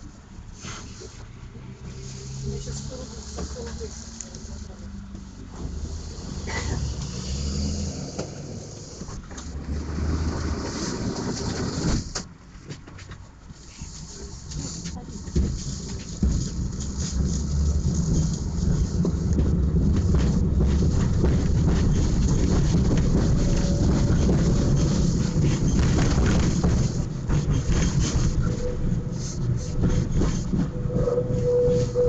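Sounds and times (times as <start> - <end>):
tram rumbling hum: 0.0 - 32.0.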